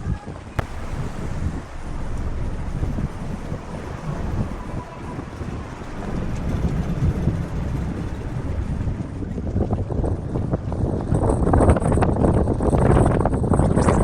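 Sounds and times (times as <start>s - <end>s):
ship engine low rumble: 0.0s - 14.0s
wind buffeting microphone: 0.0s - 14.0s.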